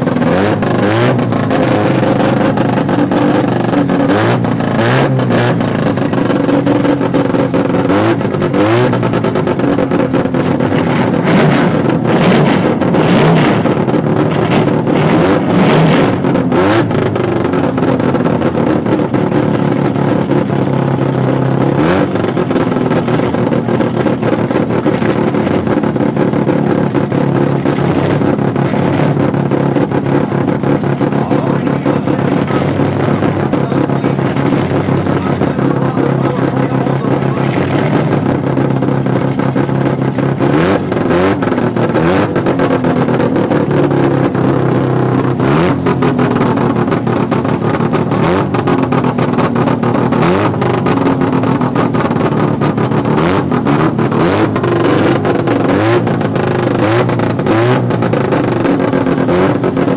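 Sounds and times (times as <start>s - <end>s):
rotary engine revving: 0.0s - 59.9s.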